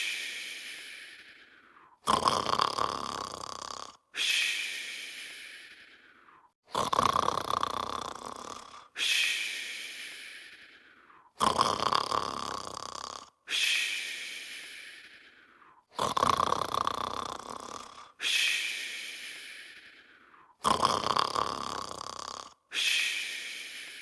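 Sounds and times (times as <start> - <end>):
cartoon snoring: 0.0 - 24.0.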